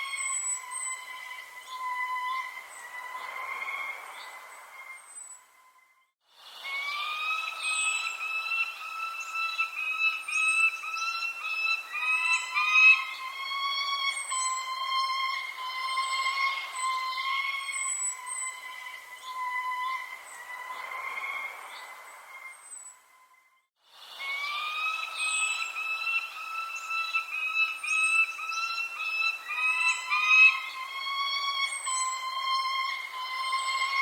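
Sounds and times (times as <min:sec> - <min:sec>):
birds chirping: 0:00.0 - 0:23.4, 0:24.2 - 0:34.0
sustained bird calls: 0:00.0 - 0:34.0.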